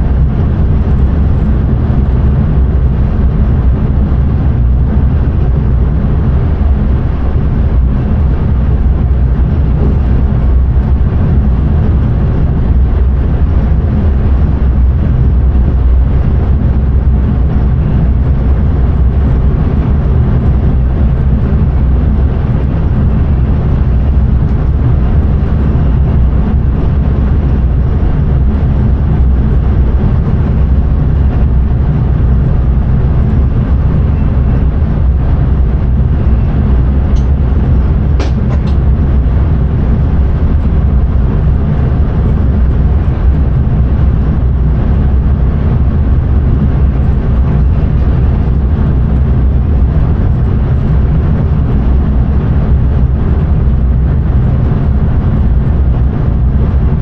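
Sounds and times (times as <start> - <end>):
train rumbling at speed: 0.0 - 57.0.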